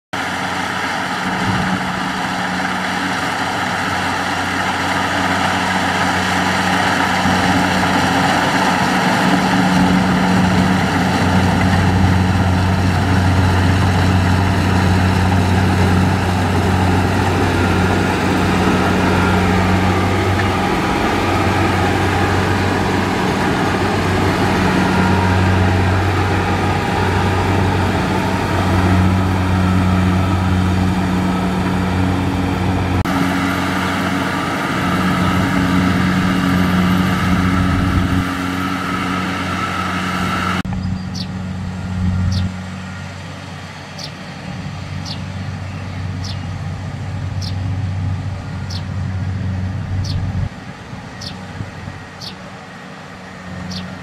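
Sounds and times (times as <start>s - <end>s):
combine harvester engine drone: 0.1s - 54.0s
machinery humming: 0.2s - 54.0s.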